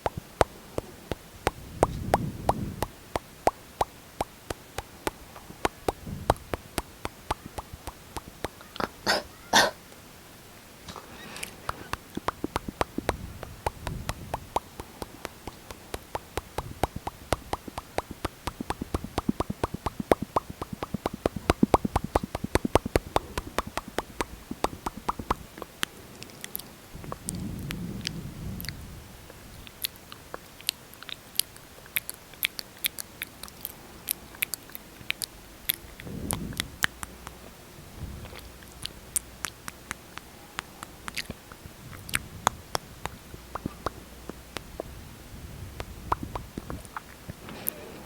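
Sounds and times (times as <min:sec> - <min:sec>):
lip smacking and clicking: 0:00.0 - 0:09.2, 0:10.9 - 0:37.6, 0:38.2 - 0:45.0, 0:45.7 - 0:47.8.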